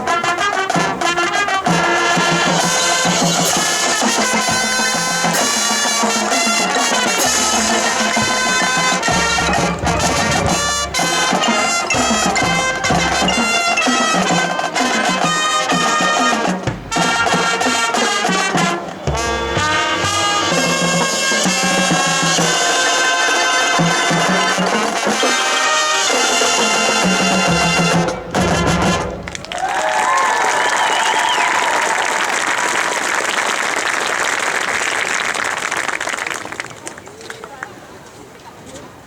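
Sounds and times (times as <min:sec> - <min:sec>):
marching band playing: 0:00.0 - 0:36.6.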